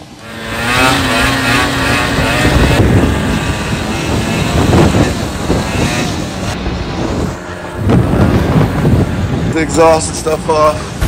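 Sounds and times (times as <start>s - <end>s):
car engine under load: 0.0s - 11.0s
tyre and wind noise: 0.0s - 11.0s.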